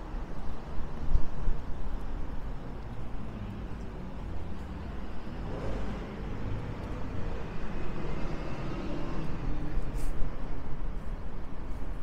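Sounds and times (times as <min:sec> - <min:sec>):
soft hiss of street air: 0:00.0 - 0:12.0.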